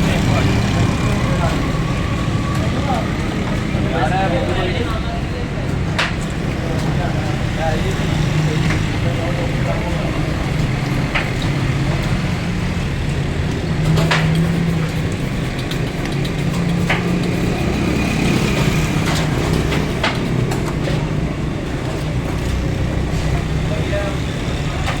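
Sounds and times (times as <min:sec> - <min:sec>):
engine low hum: 0:00.0 - 0:25.0
steady road traffic: 0:00.0 - 0:25.0.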